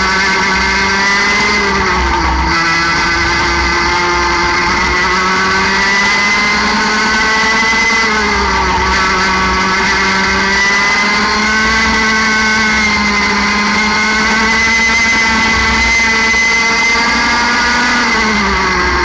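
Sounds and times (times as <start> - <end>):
kart engine at high revs: 0.0 - 19.0.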